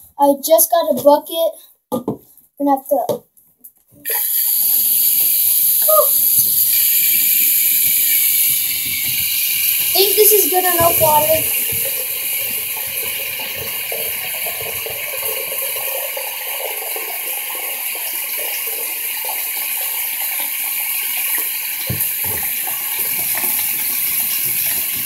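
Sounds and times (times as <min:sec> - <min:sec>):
tap water filling bucket: 0:04.0 - 0:25.0.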